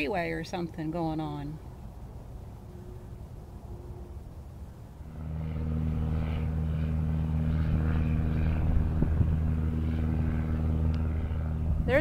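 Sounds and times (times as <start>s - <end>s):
blimp engines droning overhead: 0.0s - 12.0s.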